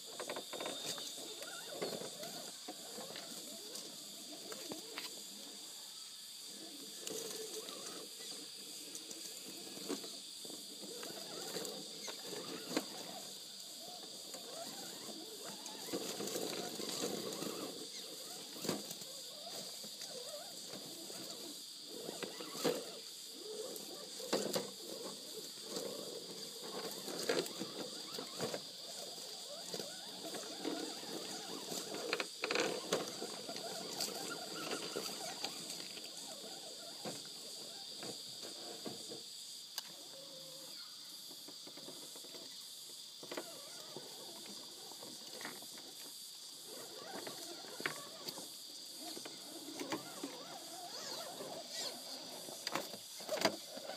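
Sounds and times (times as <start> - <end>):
toy motor and gears whirring: 0.0 - 53.9.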